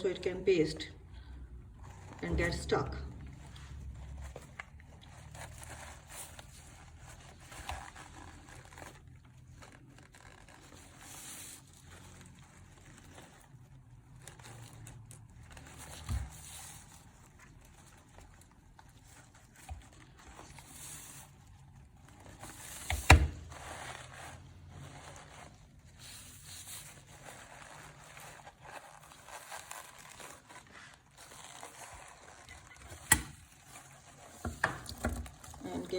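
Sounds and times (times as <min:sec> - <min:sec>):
rustling and scraping by hand: 0:00.0 - 0:35.9.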